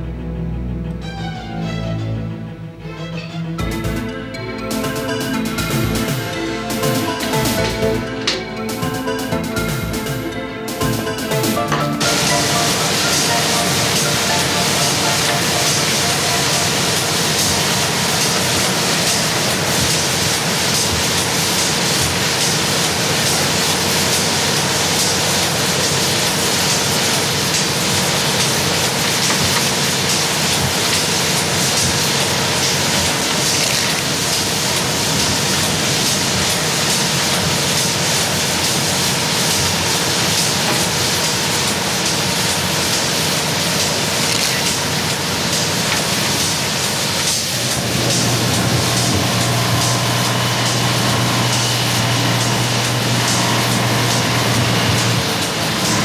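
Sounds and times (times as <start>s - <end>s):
conveyor belts running: 0.0s - 56.0s
steady machinery hum: 0.0s - 56.0s
water hose spraying: 10.8s - 56.0s.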